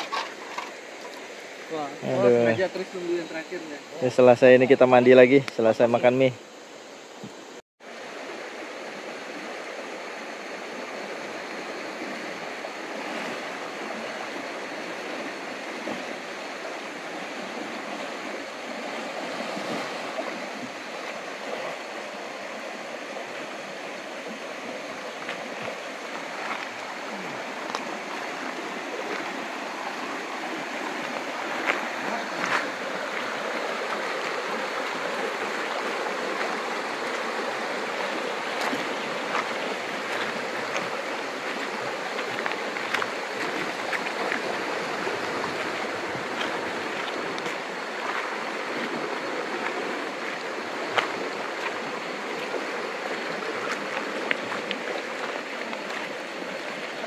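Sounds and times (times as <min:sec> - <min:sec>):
river water rushing over stones: 0:00.0 - 0:57.0.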